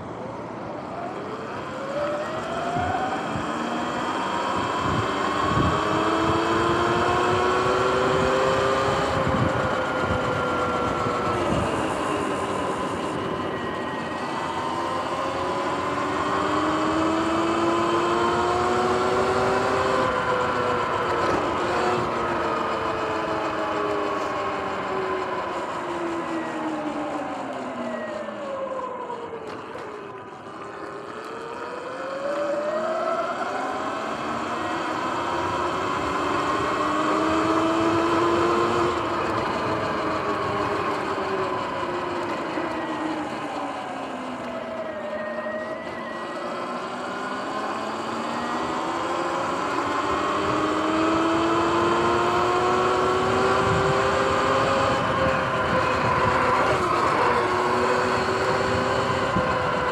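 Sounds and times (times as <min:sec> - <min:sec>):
electric motor whining: 0:01.1 - 0:28.4, 0:29.4 - 0:59.9.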